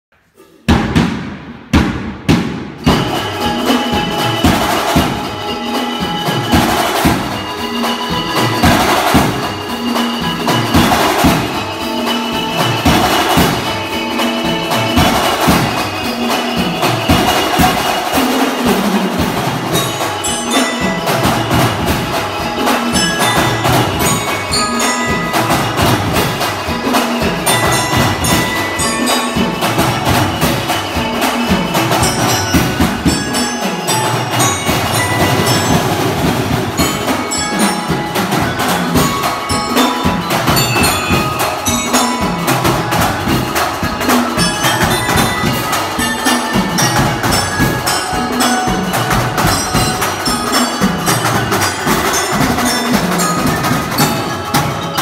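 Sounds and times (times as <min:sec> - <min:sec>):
music with percussive beat: 0:00.6 - 0:55.0.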